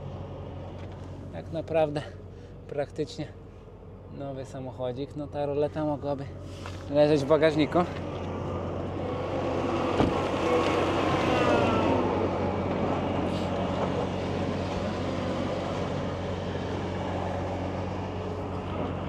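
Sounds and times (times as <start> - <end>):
heavy machinery engine humming: 0.0 - 19.0.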